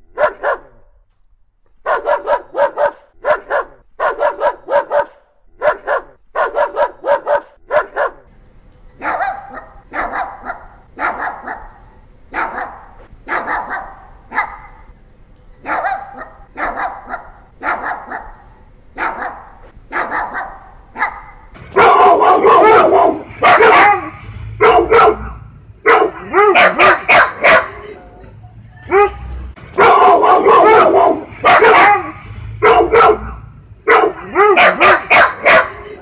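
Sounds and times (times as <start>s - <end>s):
dog barking: 0.1s - 0.9s, 1.8s - 8.3s, 9.0s - 14.9s, 15.6s - 27.8s, 28.9s - 35.9s.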